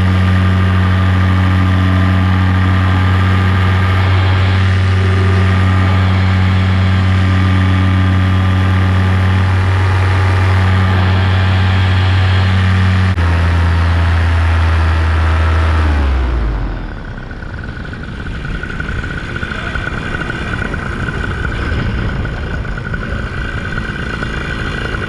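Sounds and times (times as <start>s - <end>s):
paramotor engine running: 0.0s - 25.0s.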